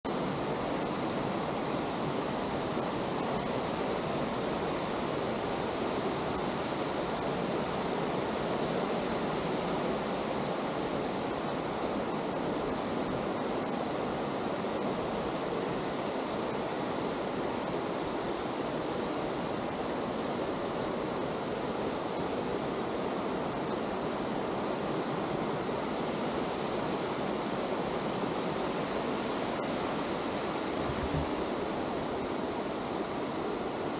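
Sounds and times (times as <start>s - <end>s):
river water rushing over rocks: 0.1s - 33.9s.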